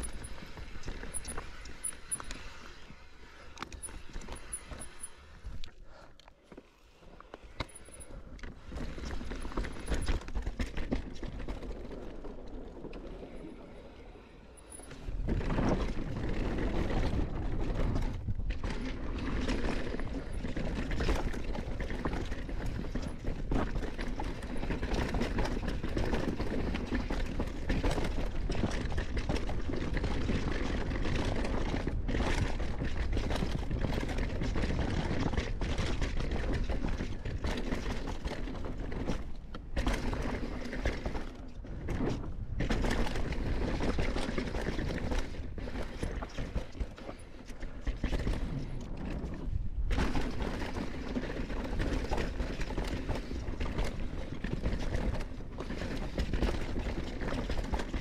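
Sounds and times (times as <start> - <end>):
bike tyres rattling over rocks: 0.0 - 6.0, 7.6 - 13.8, 14.6 - 58.0.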